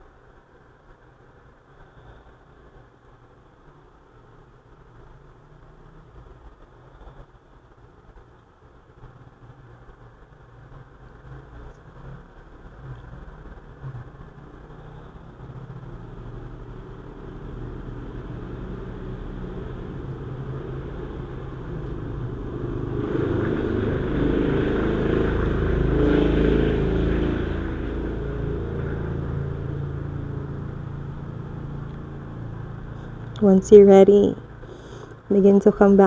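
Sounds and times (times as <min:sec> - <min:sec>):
passing vehicle engine rumbling: 0:00.0 - 0:36.0.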